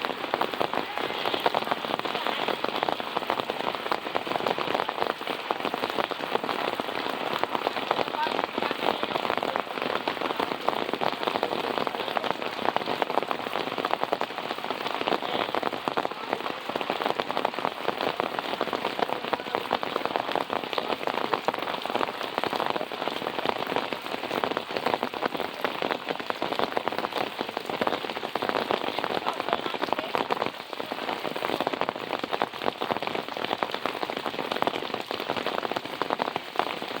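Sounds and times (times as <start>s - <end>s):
rain pattering on a surface: 0.0s - 37.0s.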